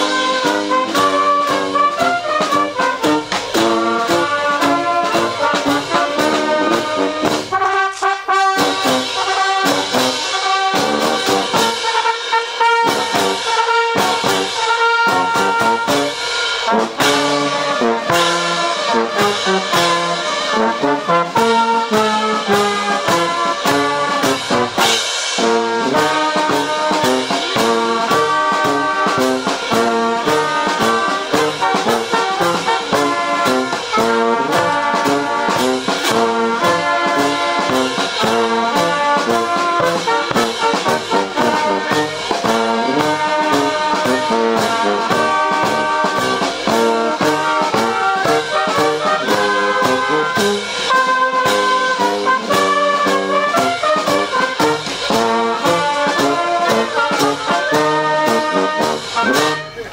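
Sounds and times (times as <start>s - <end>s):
brass band playing: 0.0s - 59.9s
drum beating: 0.0s - 59.9s.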